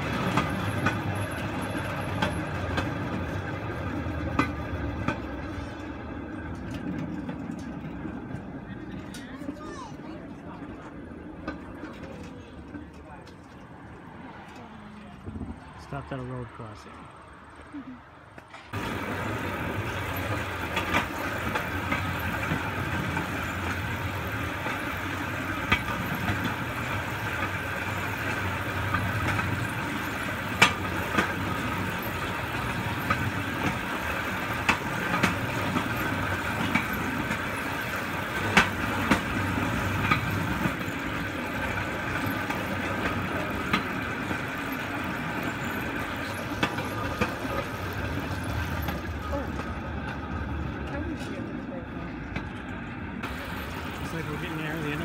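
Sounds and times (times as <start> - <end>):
steel wheels rumbling on track: 0.0 - 17.5, 18.4 - 55.0.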